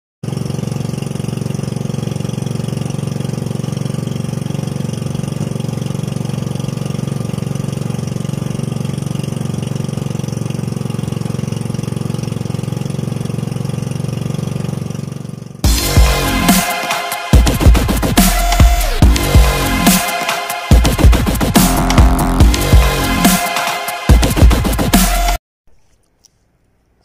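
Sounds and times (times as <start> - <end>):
steady engine drone: 0.2 - 25.4.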